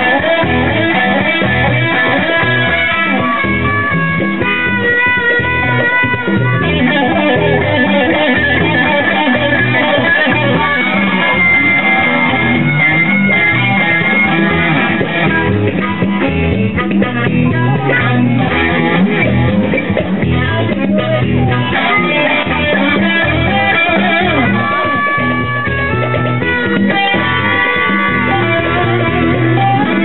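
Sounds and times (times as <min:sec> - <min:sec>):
electric guitar: 0:00.0 - 0:30.0.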